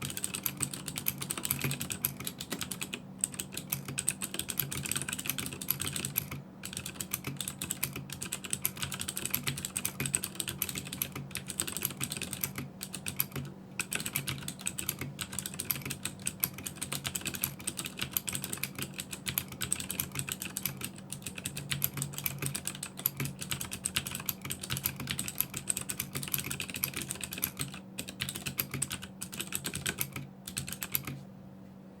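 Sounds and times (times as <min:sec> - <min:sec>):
clicky mechanical keyboard typing: 0:00.0 - 0:31.2.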